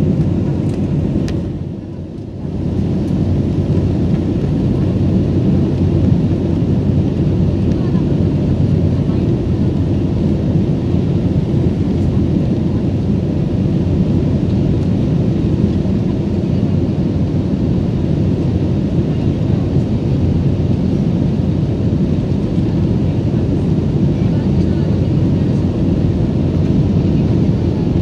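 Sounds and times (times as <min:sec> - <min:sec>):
airliner engine roar in cabin: 0:00.0 - 0:28.0.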